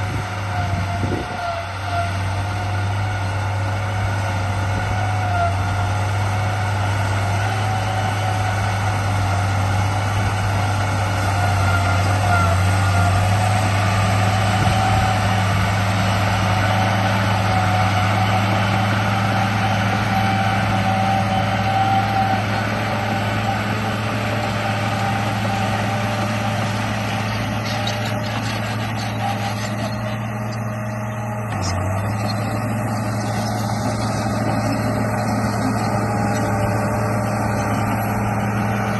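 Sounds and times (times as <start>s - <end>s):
toy bulldozer motor droning: 0.0s - 38.9s.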